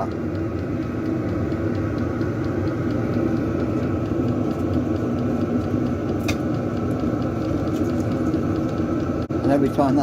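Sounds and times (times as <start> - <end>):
air heater burner and fan rumbling: 0.0 - 10.0.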